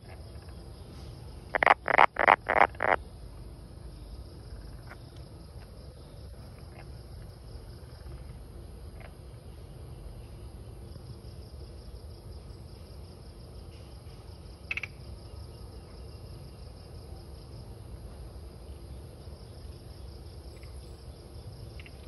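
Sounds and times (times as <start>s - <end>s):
cricket trilling: 0.0s - 22.0s.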